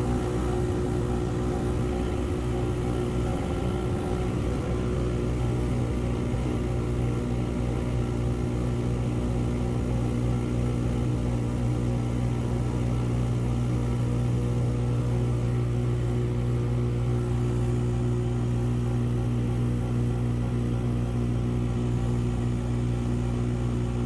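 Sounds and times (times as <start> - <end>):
engine drone inside vehicle: 0.0 - 24.0.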